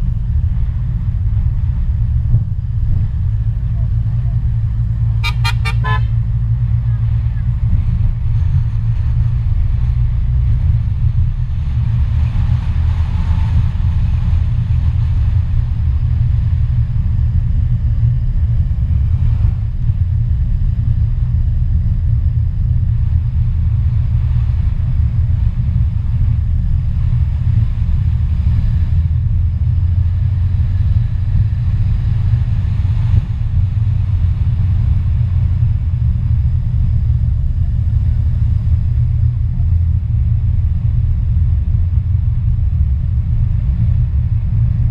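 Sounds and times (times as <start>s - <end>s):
car driving low rumble: 0.0s - 44.9s.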